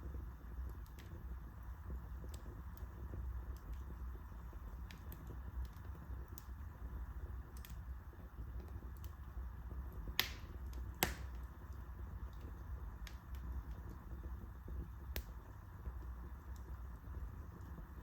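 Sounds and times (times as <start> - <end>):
loud fire snaps: 0.0 - 18.0
wood fire crackling: 0.0 - 18.0.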